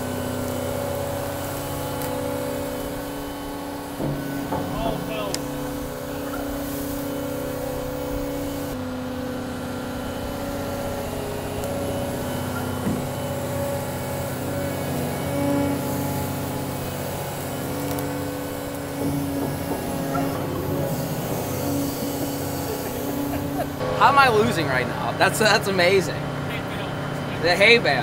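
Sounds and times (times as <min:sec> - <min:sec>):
excavator diesel engine running: 0:00.0 - 0:28.0
hydraulics working bucket: 0:00.0 - 0:28.0.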